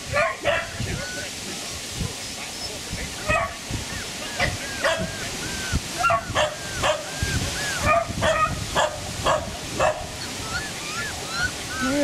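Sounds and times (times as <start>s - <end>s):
puppy yipping and barking: 0.1s - 1.3s, 3.2s - 12.0s.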